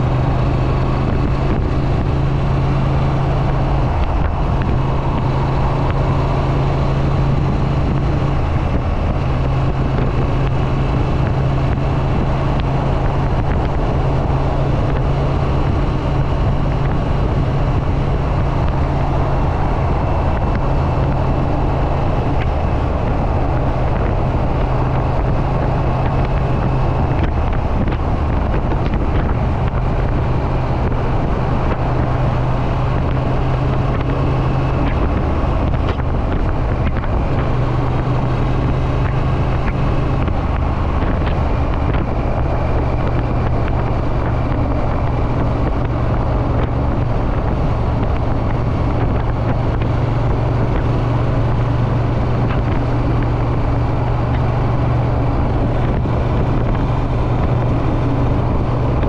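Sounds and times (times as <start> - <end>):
motorcycle engine cruising: 0.0 - 59.0
wind buffeting microphone: 0.0 - 59.0.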